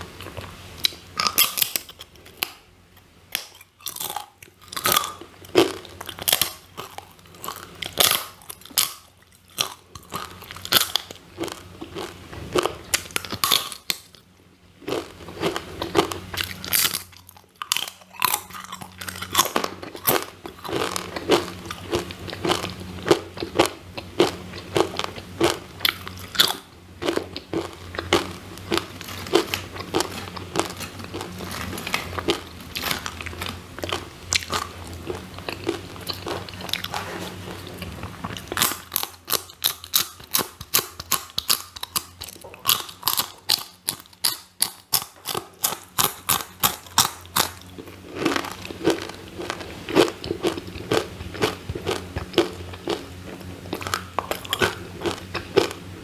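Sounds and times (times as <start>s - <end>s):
crunching and chewing chips: 0.0s - 2.6s, 3.3s - 56.0s.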